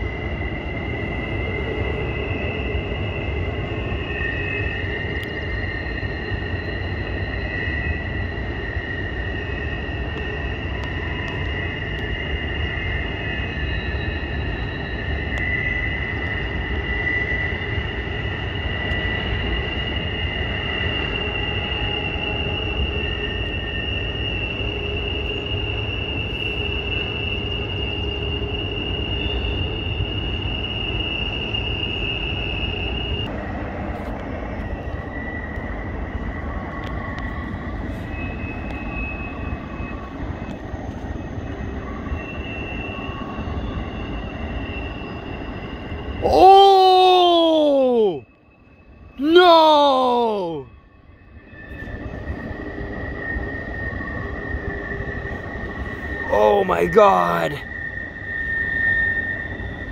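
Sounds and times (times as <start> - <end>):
train wheels squealing: 0.0 - 56.6, 57.5 - 59.9
low train rumble: 0.0 - 59.9.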